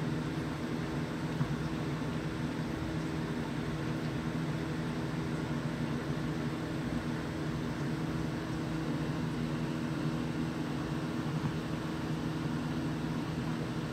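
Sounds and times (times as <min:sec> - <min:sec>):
aquarium pump hum and hiss: 0:00.0 - 0:13.9.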